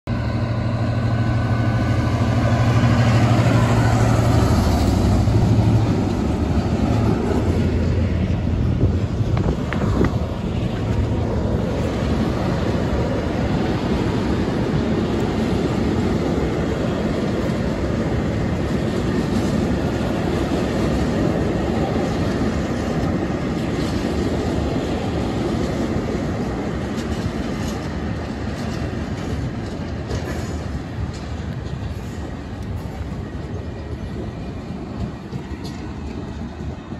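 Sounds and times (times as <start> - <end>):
train wheels rumbling on rails: 0.1 - 36.9.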